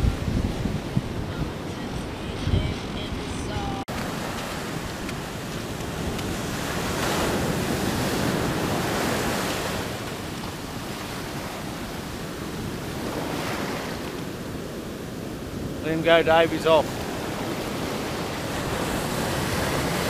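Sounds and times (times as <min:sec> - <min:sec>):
waves breaking on sand: 0:00.0 - 0:20.0.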